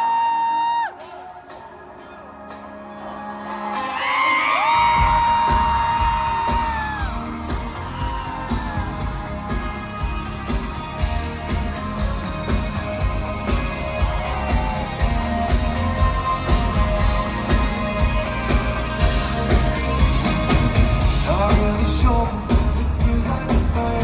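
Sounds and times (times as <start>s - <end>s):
crowd cries: 0.0s - 22.4s
live pop band playing: 0.0s - 24.0s.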